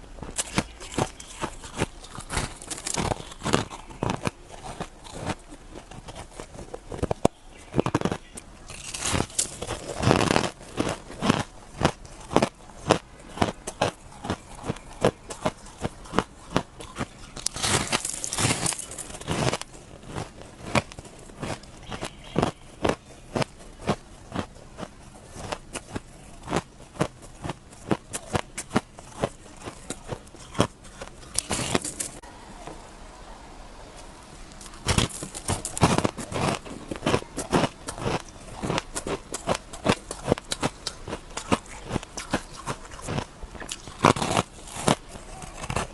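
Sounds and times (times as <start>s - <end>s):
chewing crunchy shaved ice: 0.0s - 32.2s, 34.5s - 45.9s.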